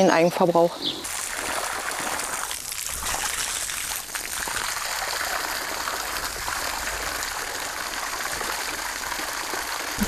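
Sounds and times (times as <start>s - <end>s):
water jet spraying on mud: 1.1s - 10.0s.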